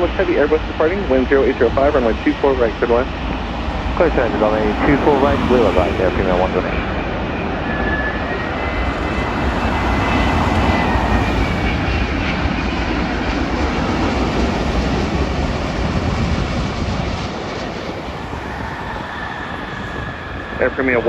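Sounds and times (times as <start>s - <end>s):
faint high whine: 0.0s - 21.0s
jet engines rumbling: 0.0s - 21.0s.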